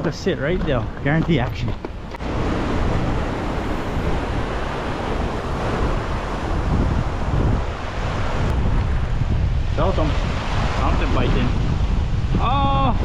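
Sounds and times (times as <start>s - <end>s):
wind buffeting microphone: 0.0s - 13.0s
surf washing over rocks: 0.1s - 13.0s.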